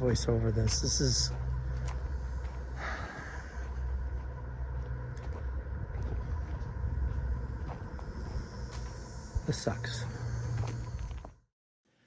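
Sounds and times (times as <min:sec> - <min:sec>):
low outdoor rumble: 0:00.0 - 0:11.4.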